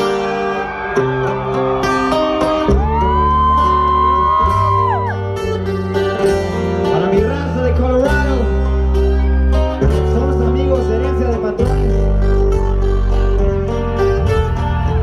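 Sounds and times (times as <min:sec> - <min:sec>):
live band music through pa: 0:00.0 - 0:15.0.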